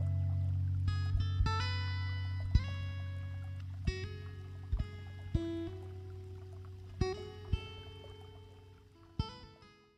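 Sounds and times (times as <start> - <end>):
plucked notes ringing: 0.0 - 9.7.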